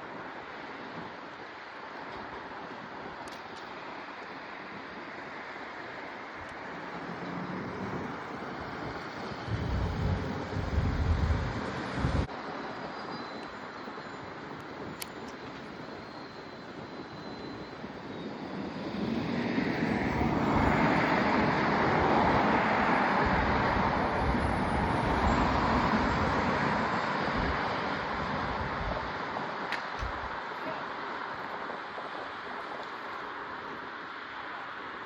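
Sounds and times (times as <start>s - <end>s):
wind buffeting microphone: 0.0s - 34.0s
vehicle tyre and road noise: 0.0s - 35.0s.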